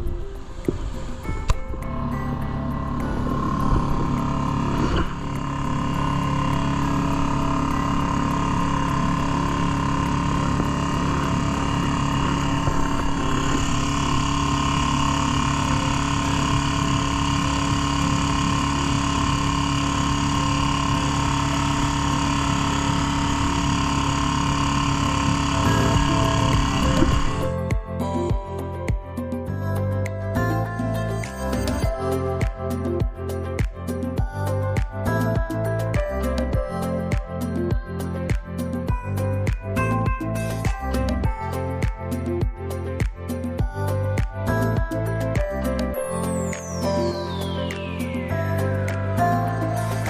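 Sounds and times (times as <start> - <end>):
vehicle engine running: 0.0 - 28.8, 29.5 - 50.0.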